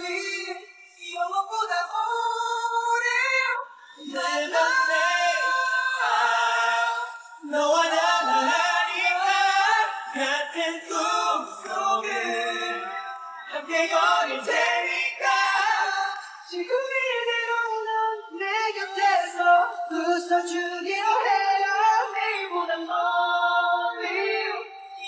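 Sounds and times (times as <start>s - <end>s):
young men singing: 4.0s - 24.9s.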